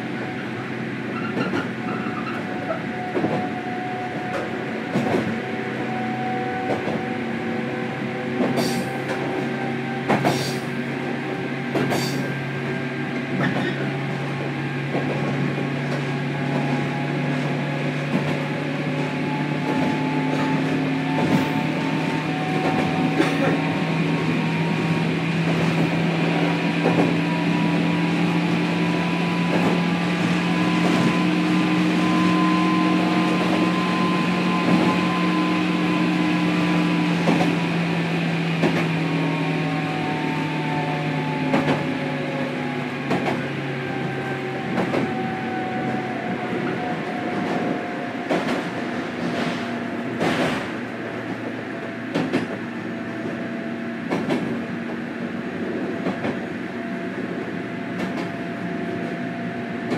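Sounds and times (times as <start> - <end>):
train traction motor whine: 0.0 - 59.9.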